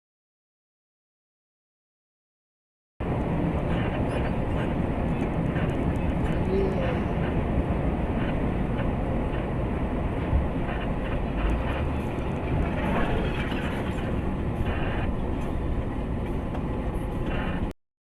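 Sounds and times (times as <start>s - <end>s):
vehicle rumble from on board: 3.0s - 17.8s.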